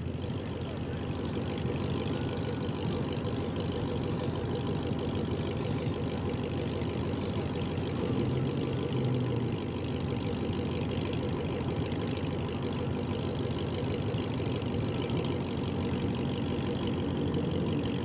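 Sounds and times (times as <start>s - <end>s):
car engine running: 0.0s - 18.0s
road noise: 0.0s - 18.0s.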